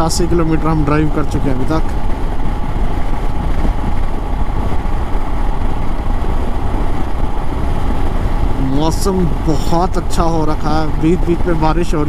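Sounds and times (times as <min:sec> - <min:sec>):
motorcycle engine drone: 0:00.0 - 0:12.0
wind rumble on microphone: 0:00.0 - 0:12.0.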